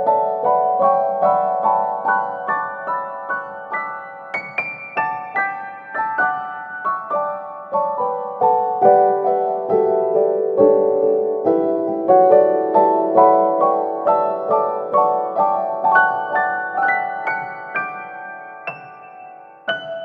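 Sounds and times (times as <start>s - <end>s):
piano melody: 0.0s - 20.0s.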